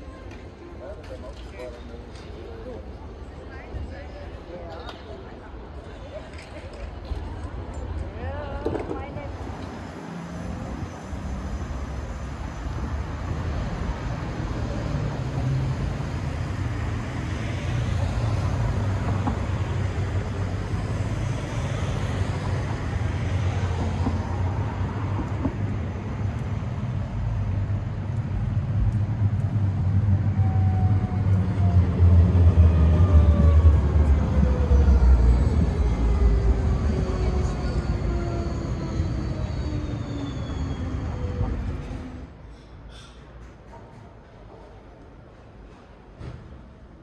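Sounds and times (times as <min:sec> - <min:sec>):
traffic rumble: 0:00.0 - 0:47.0.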